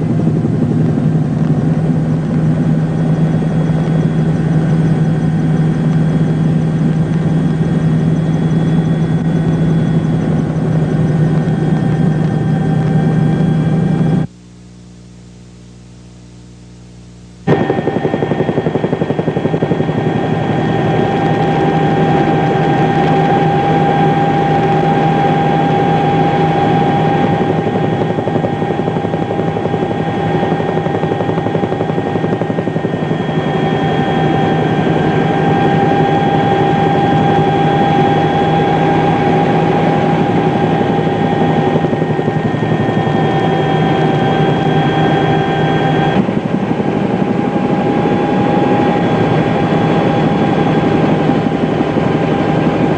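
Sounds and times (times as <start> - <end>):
engine drone with whine: 0.0 - 52.9.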